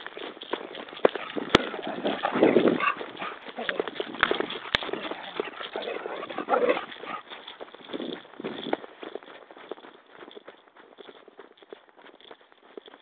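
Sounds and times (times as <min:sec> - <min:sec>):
footsteps on dry grass: 0:00.0 - 0:13.0.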